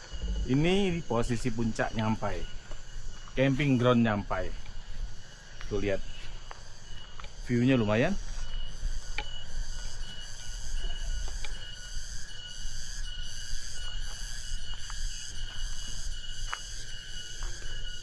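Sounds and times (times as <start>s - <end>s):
wind rumble on microphone: 0.0s - 6.4s, 7.3s - 18.0s
insects chorus pulsing: 0.0s - 18.0s.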